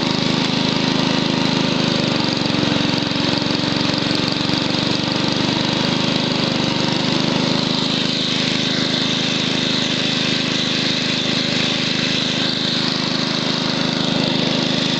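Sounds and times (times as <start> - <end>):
single-cylinder engine running: 0.0 - 14.9.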